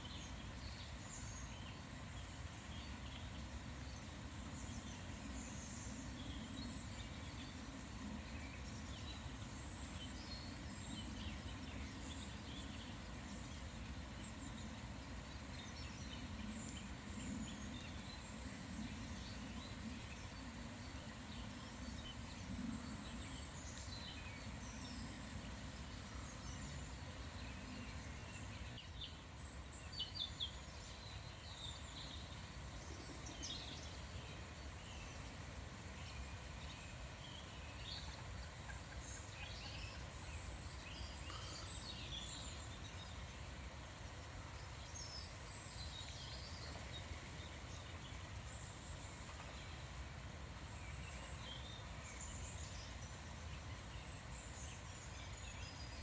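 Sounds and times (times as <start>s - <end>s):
steady low background noise: 0.0s - 56.0s.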